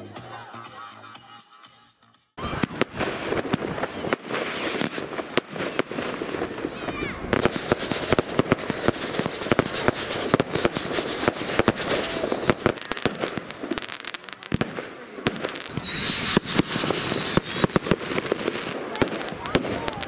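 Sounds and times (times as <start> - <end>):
fireworks banging and crackling: 2.4 - 20.0.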